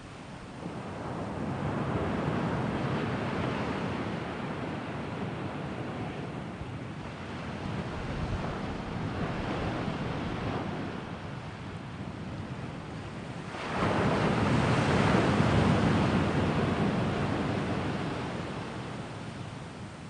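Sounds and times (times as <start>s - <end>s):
sea waves washing ashore: 0.0s - 20.0s.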